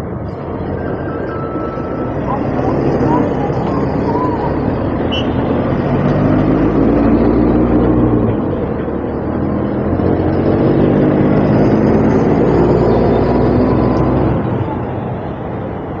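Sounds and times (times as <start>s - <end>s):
truck driving past: 0.0s - 14.9s
bus driving past: 0.0s - 16.0s.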